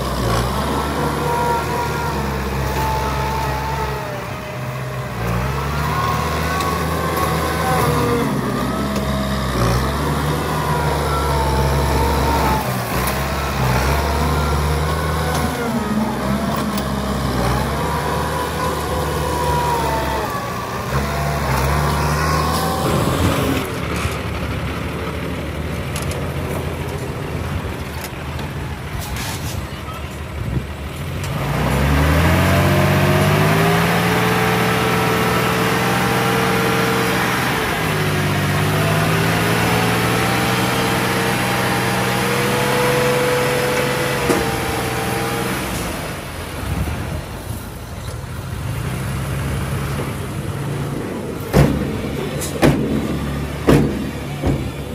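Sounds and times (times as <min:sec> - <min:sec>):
diesel truck engine idling and revving: 0:00.0 - 0:54.9.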